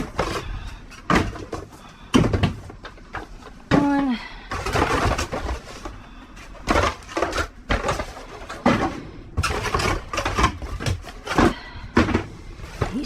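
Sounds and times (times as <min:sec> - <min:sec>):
rummaging through cardboard boxes: 0:00.0 - 0:13.0.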